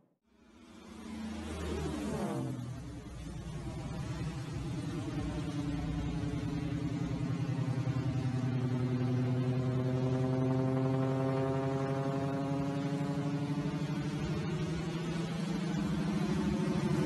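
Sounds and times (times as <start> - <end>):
propeller plane droning overhead: 0.4 - 17.0.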